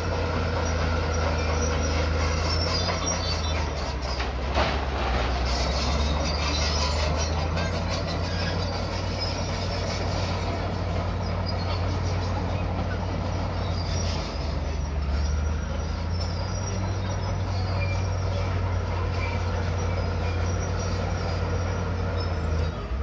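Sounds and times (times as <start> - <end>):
bulldozer diesel engine under load: 0.0 - 23.0
steel tracks squeaking: 0.0 - 23.0.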